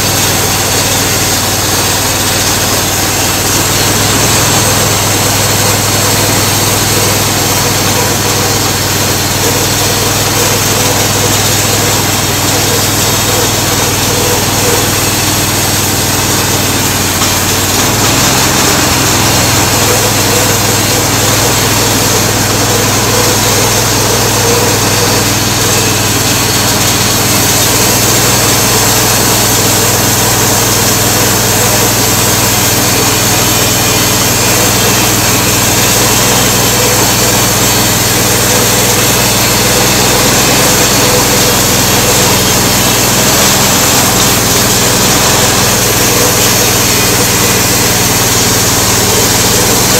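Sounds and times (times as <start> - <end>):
small gasoline engine running: 0.0 - 49.9.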